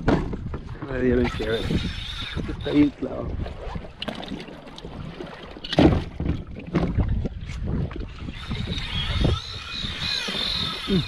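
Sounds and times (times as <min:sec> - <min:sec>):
water sloshing against kayak hull: 0:00.0 - 0:11.0
wind on microphone: 0:00.0 - 0:11.0.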